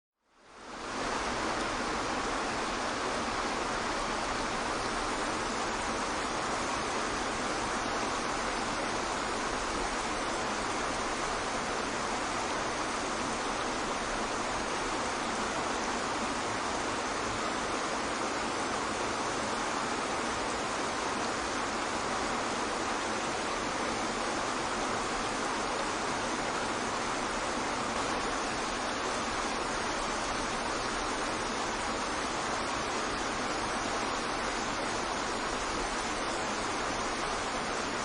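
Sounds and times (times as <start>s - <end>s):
waterfall rushing: 0.4s - 38.0s.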